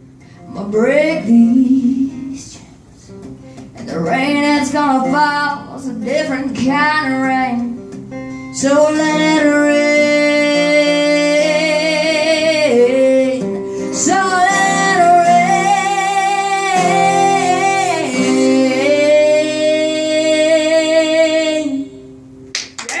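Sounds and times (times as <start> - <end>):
guitar chords: 0.0 - 22.8.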